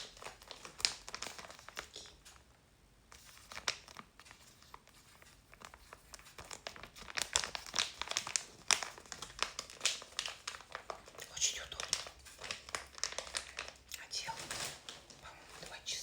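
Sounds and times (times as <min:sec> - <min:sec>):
packaging crinkling: 0:00.0 - 0:02.5, 0:03.1 - 0:15.8.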